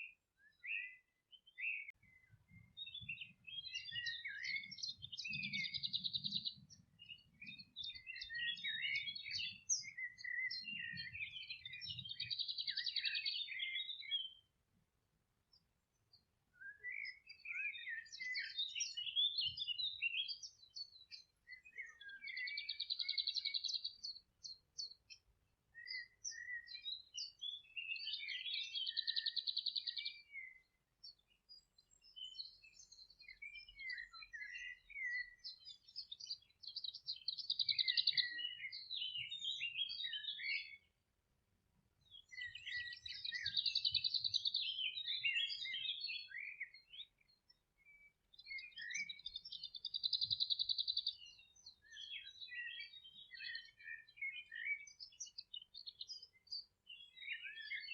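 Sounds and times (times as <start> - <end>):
birds singing: 0.0 - 14.8, 15.4 - 41.2, 41.8 - 57.9.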